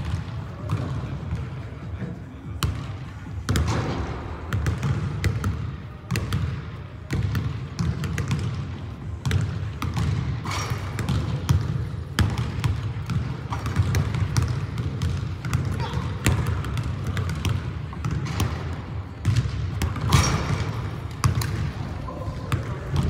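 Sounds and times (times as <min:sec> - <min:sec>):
basketballs bouncing on hardwood: 0:00.0 - 0:01.5, 0:02.6 - 0:21.7.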